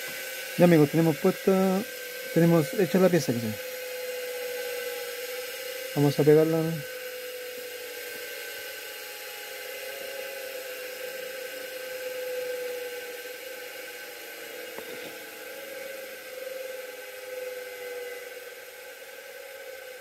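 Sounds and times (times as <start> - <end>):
small electric motor whirring: 0.0 - 20.0.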